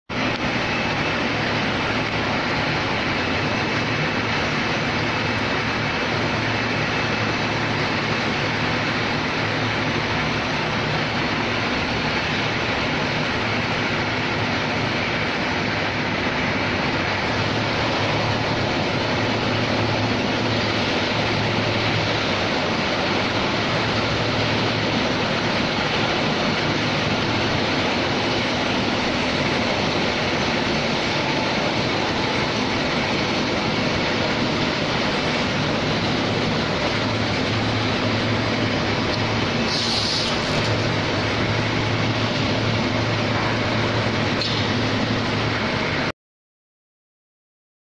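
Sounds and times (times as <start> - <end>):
machine whirring with low hum: 0.1 - 46.1.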